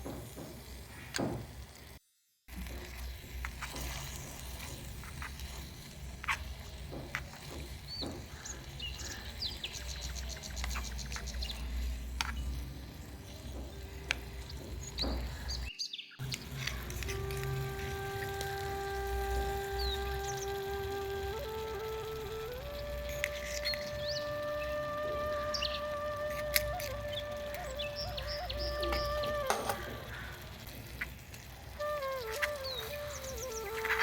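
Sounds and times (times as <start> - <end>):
birds chirping: 3.0 - 34.0.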